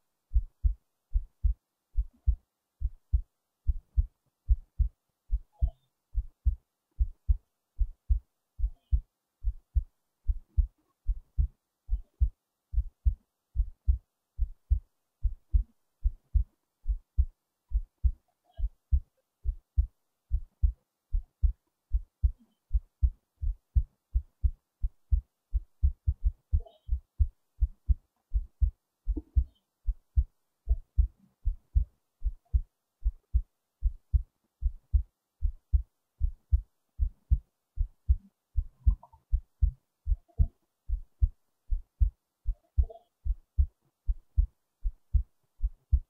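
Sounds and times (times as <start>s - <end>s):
heartbeat thumps: 0.3s - 46.0s.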